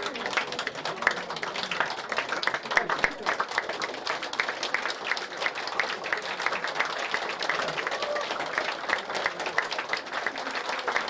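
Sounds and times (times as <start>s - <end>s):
crowd clapping: 0.0s - 11.0s
crowd voices: 0.0s - 11.0s.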